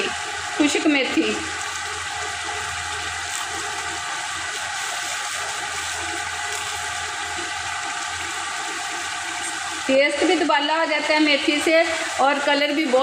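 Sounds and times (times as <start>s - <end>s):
curry sizzling in pot: 0.0s - 13.0s.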